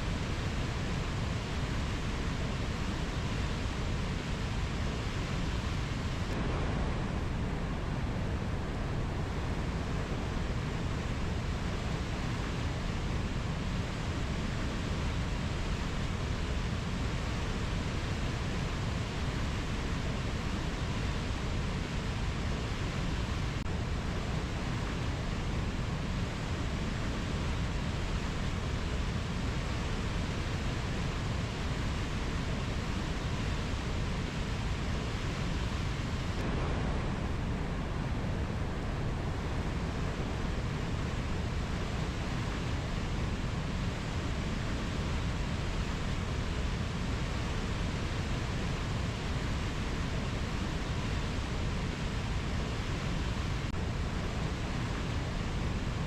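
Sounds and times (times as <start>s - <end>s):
rainforest ambience rushing noise: 0.0s - 56.0s.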